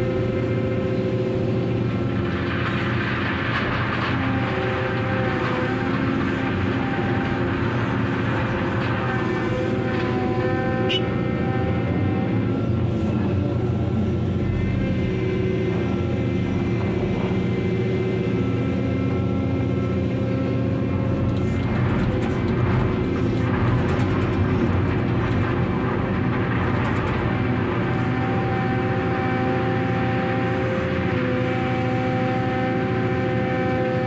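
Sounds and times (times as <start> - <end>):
diesel machinery engine drone: 0.0 - 34.0.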